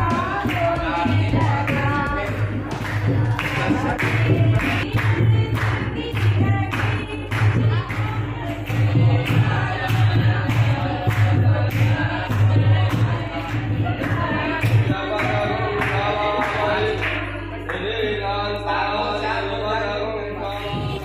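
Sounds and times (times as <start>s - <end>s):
low steady beat: 0.0s - 18.7s
voices singing: 0.0s - 21.0s.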